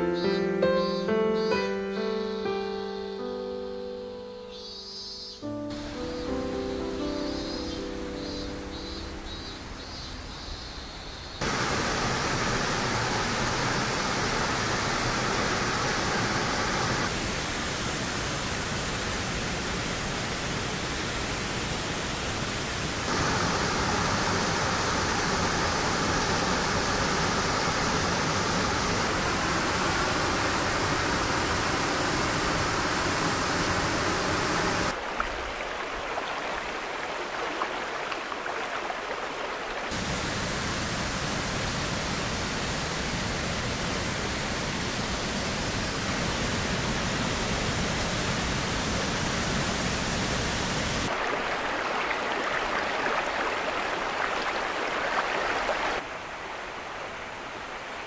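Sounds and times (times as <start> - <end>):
river rushing over rocks: 11.4 - 58.0.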